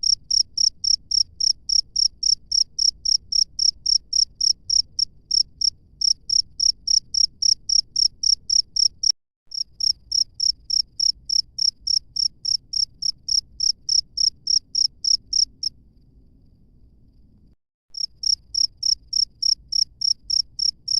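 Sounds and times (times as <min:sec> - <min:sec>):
cricket chirping: 0:00.0 - 0:17.4, 0:18.0 - 0:20.9.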